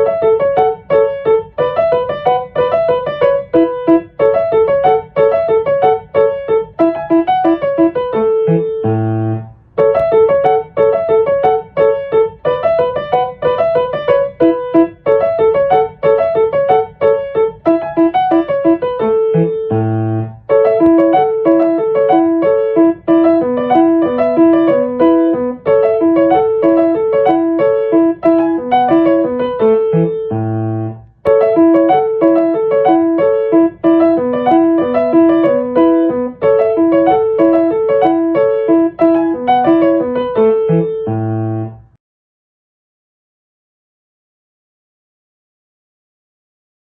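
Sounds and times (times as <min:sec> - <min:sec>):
piano melody: 0:00.0 - 0:42.0.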